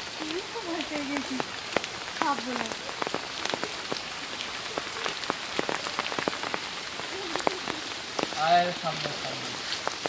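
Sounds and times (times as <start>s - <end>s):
raindrops ticking close by: 0.0s - 10.0s
steady rain falling: 0.0s - 10.0s.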